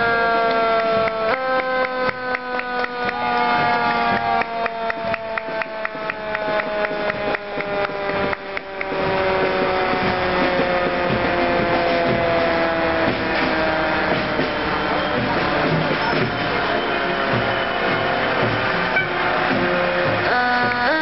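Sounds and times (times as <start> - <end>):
fire engine siren: 0.0 - 21.0.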